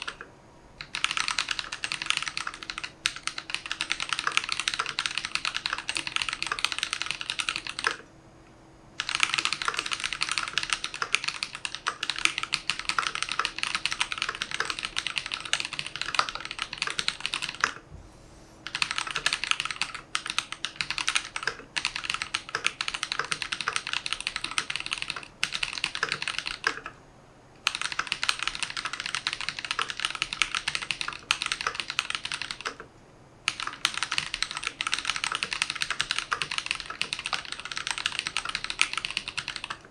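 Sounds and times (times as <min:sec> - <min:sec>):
mechanical keyboard typing: 0:00.0 - 0:08.1, 0:09.0 - 0:17.8, 0:18.6 - 0:27.0, 0:27.6 - 0:32.9, 0:33.5 - 0:39.9.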